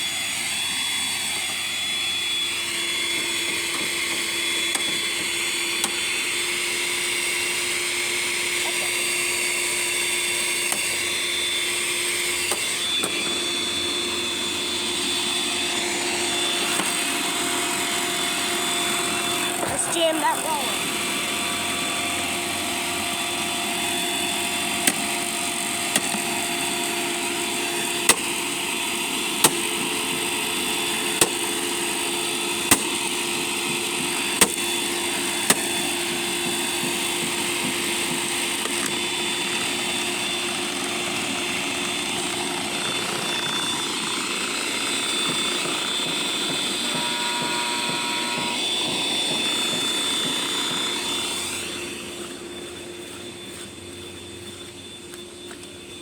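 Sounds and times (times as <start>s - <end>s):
vacuum cleaner motor whining: 0.0s - 56.0s.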